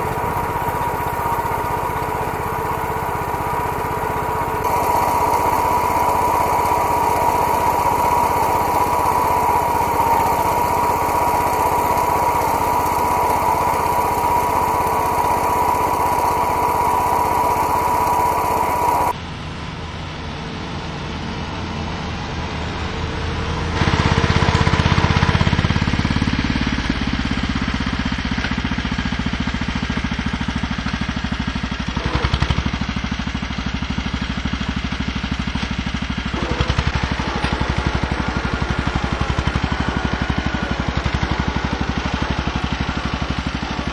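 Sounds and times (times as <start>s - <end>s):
small tractor engine under load: 0.0s - 19.2s, 23.1s - 43.9s.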